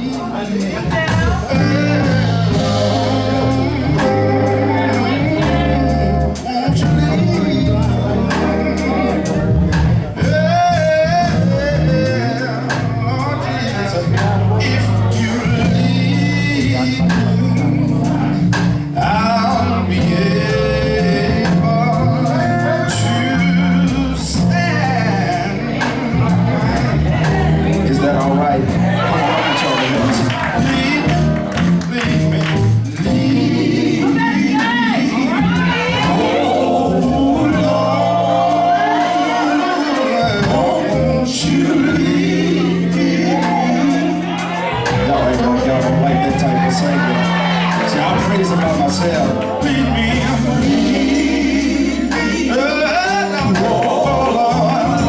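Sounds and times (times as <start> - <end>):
band playing: 0.0 - 55.0
bass line: 0.0 - 55.0
man singing: 0.0 - 55.0
steady drum beat: 0.0 - 55.0.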